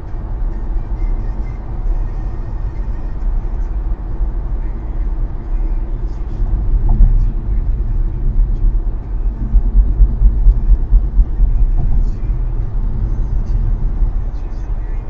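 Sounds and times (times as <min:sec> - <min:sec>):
engine drone: 0:00.0 - 0:15.0
road and tyre noise: 0:00.0 - 0:15.0.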